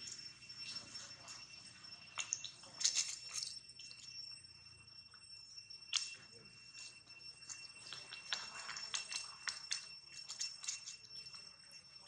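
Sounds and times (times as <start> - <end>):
steady high-pitched whine: 0.0 - 12.0.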